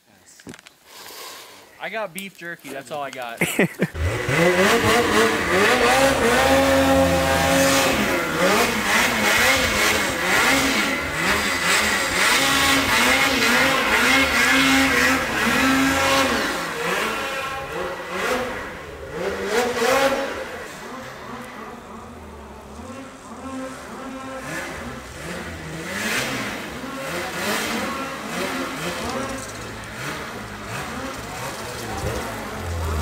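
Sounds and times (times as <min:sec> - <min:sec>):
snowmobile engine revving: 0:02.8 - 0:33.0.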